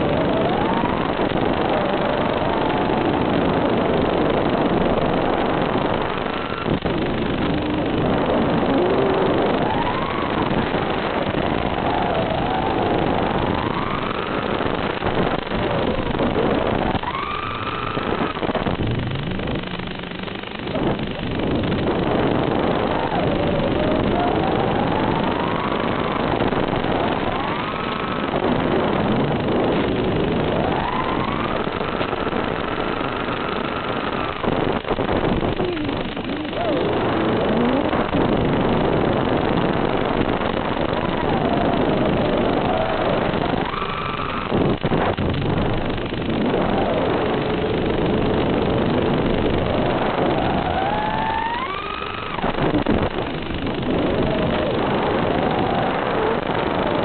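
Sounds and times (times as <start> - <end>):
electric motor and propeller whining: 0.0 - 57.0
rush of air: 0.0 - 57.0.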